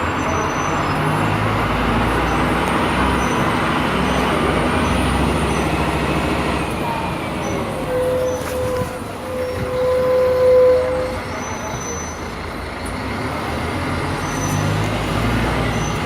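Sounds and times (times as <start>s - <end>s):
bus diesel engine hum: 0.0s - 16.0s
road noise: 0.0s - 16.0s.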